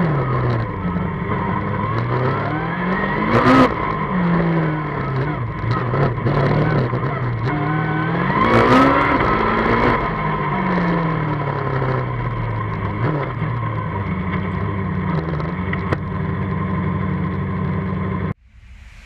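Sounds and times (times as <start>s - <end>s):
race car engine: 0.0s - 19.0s.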